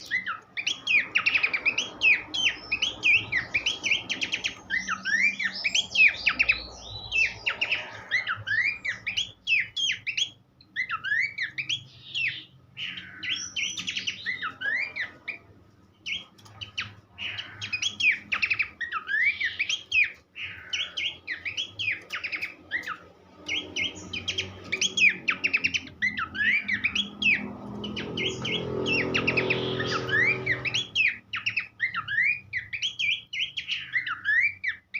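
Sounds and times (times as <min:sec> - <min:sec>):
bird singing whistled chirps: 0:00.0 - 0:34.9.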